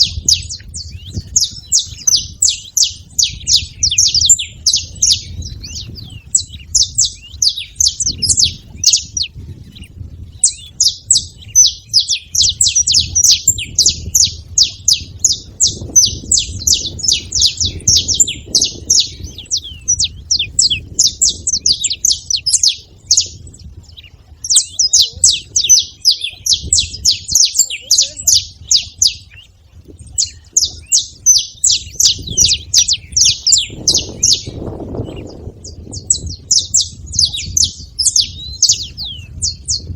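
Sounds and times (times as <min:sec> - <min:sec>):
finch chirping: 0:00.0 - 0:39.9.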